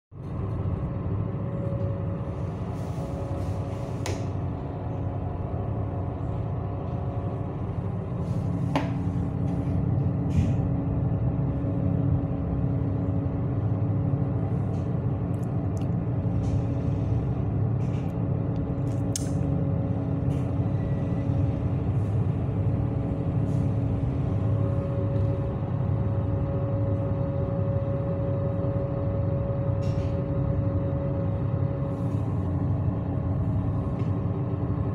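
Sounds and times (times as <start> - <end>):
ship engines droning: 0.2 - 34.9.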